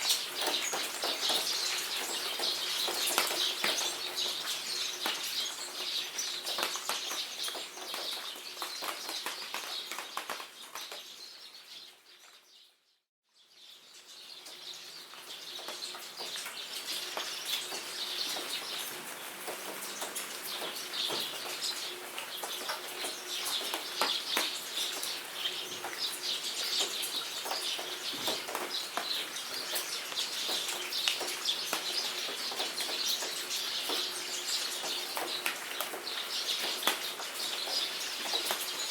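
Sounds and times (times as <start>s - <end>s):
rain pattering: 0.0s - 11.3s, 14.2s - 38.9s
birds chirping: 0.0s - 12.8s, 13.4s - 38.9s.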